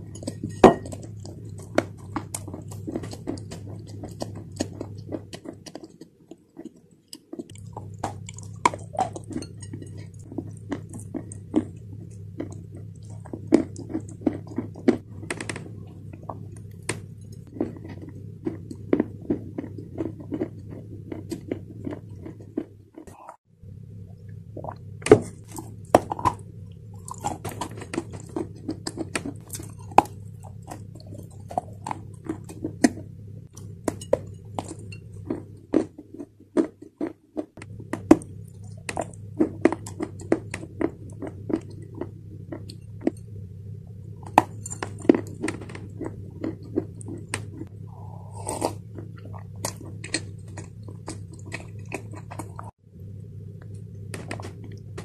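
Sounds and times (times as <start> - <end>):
crunching and grinding chewing: 0.0 - 23.4, 24.6 - 55.0
steady low hum: 0.0 - 55.0.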